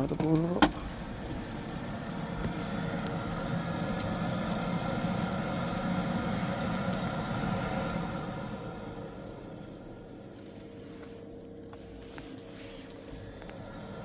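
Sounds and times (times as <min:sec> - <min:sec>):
boiler mechanical hum: 0:00.0 - 0:14.0.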